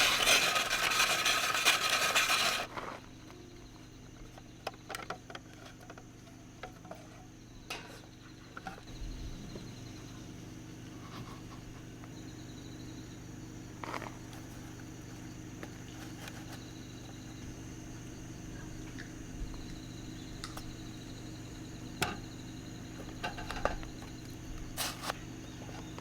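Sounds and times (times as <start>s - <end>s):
insects chirping: 0.0s - 26.0s
low steady hum: 0.0s - 26.0s.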